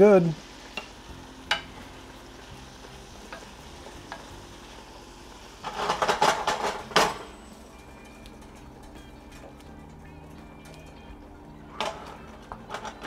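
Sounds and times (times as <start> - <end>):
vegetables sizzling in butter: 0.0 - 13.0.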